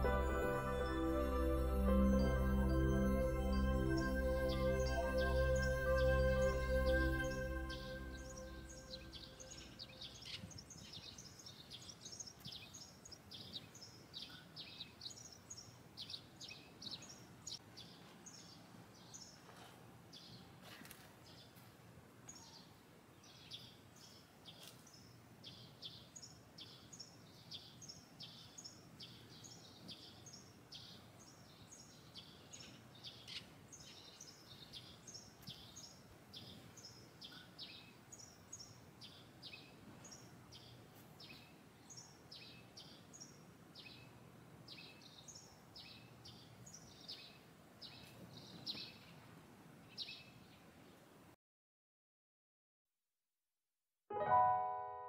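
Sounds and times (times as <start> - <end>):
small birds chirping: 0.0 - 49.2, 49.8 - 51.0.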